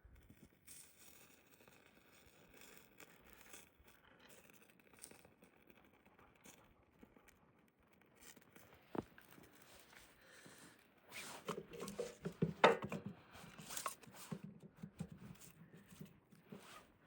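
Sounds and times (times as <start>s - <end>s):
faint rustling and handling: 0.2s - 17.0s.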